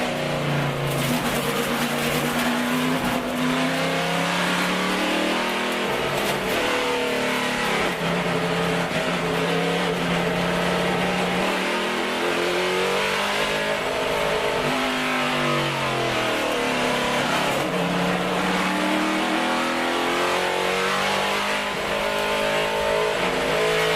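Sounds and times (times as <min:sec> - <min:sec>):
race engine revving under load: 0:00.0 - 0:23.9.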